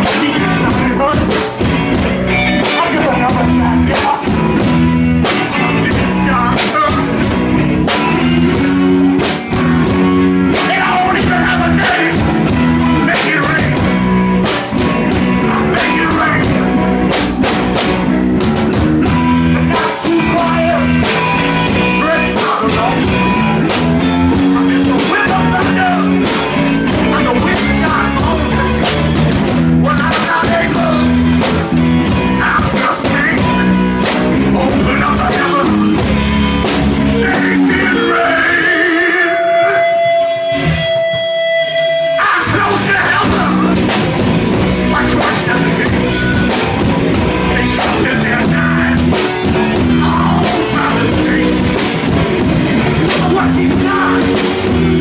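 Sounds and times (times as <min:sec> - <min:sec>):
held guitar notes: 0:00.0 - 0:55.0
rock band playing live: 0:00.0 - 0:55.0.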